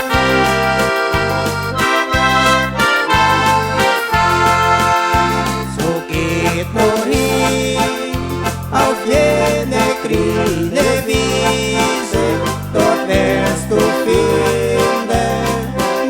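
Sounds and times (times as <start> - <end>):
accordion melody: 0.0 - 16.0
oom-pah bass: 0.0 - 16.0.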